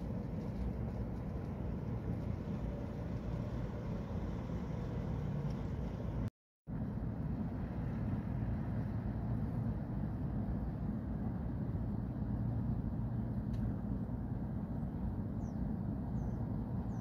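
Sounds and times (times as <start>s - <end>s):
distant vehicle engines rumbling: 0.0s - 17.0s.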